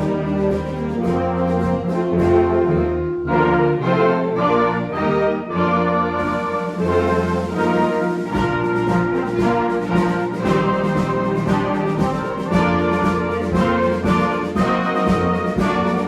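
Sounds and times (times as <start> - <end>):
concert band playing: 0.0 - 16.0.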